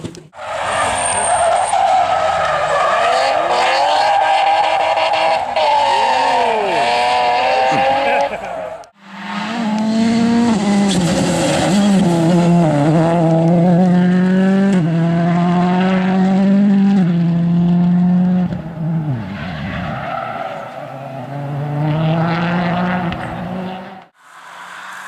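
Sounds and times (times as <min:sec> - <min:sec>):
rally car engine at high revs: 0:00.7 - 0:24.2.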